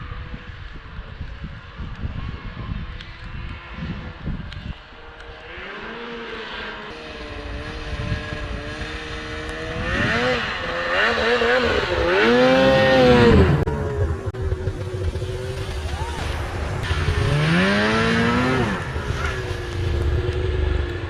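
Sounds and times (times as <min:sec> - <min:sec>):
snowmobile engine: 0:00.0 - 0:21.0.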